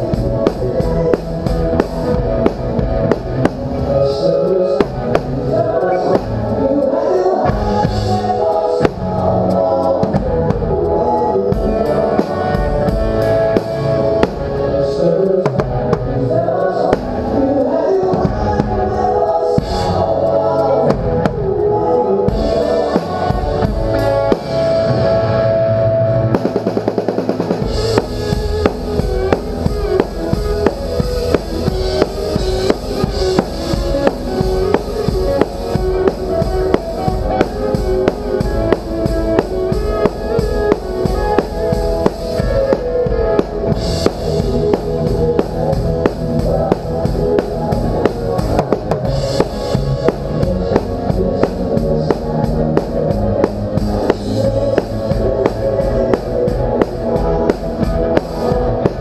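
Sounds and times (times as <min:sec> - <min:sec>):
drums playing: 0:00.0 - 0:06.8, 0:07.4 - 0:20.2, 0:22.2 - 0:25.2, 0:26.3 - 0:59.0
live rock band: 0:00.0 - 0:59.0.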